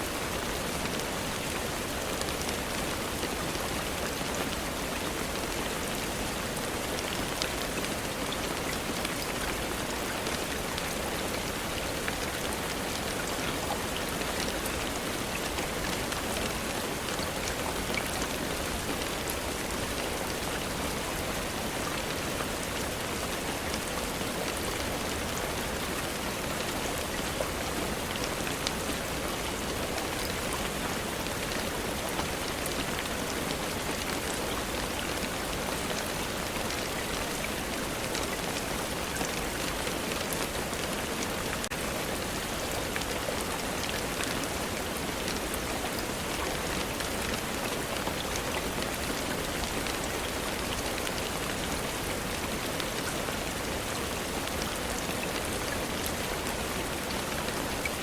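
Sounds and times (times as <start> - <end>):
faint ticks of raindrops: 0.0 - 58.0
steady rainfall: 0.0 - 58.0.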